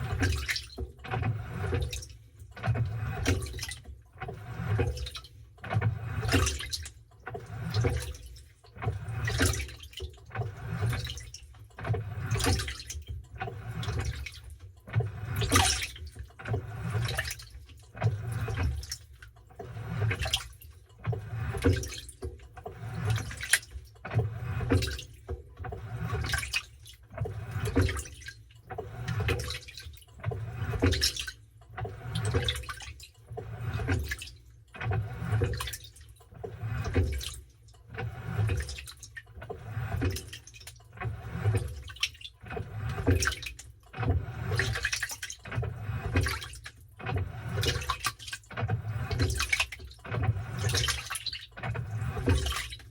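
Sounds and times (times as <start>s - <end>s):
washing machine rumble: 0.0s - 52.9s
wet towels sloshing in water: 0.0s - 52.9s.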